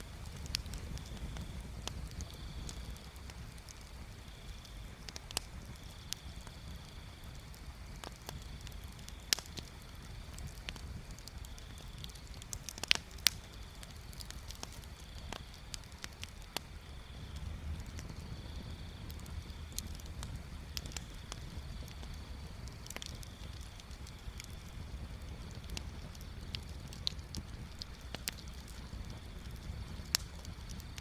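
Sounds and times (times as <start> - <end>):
bonfire crackling and popping: 0.0 - 31.0
fire rumbling: 0.0 - 31.0.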